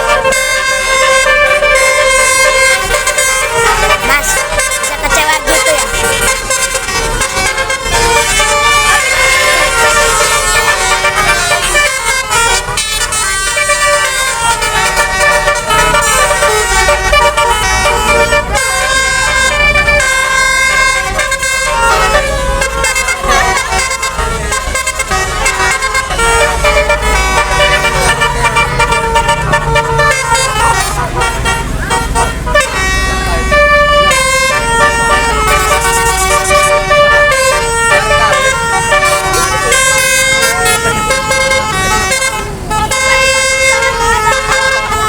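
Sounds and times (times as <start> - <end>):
musical bus air horn tooting: 0.0 - 45.0.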